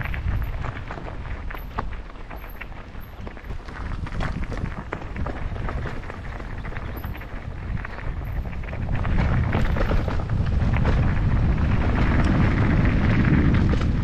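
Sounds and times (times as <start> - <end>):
bike rattling on rough trail: 0.0 - 14.0
wind buffeting microphone: 0.0 - 14.0.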